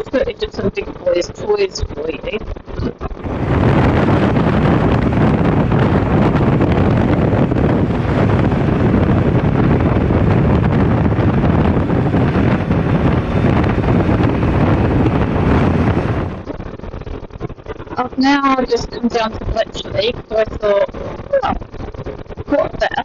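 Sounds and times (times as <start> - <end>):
motorcycle engine rumble: 0.0 - 23.0
wind buffeting on microphone: 0.0 - 23.0.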